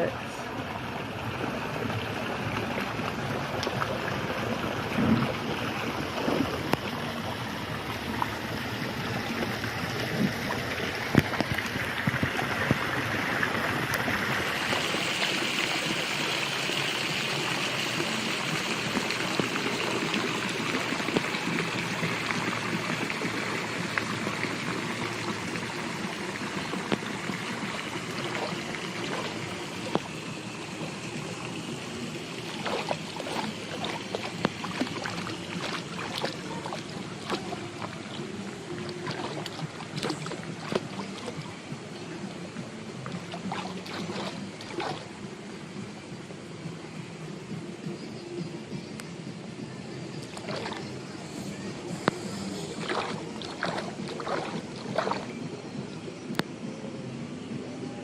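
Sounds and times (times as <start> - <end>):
water running and splashing: 0.0 - 45.2, 50.2 - 55.4.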